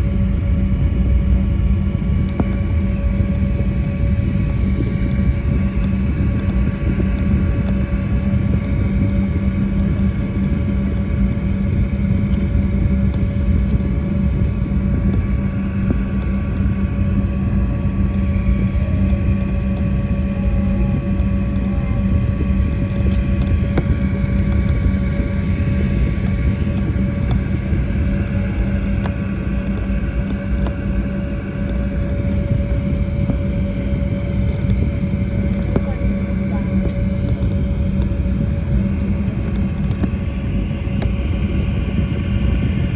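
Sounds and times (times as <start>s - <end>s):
airliner cabin rumble: 0.0s - 42.9s
jet engines whining: 0.0s - 42.9s
steady hum: 0.0s - 42.9s.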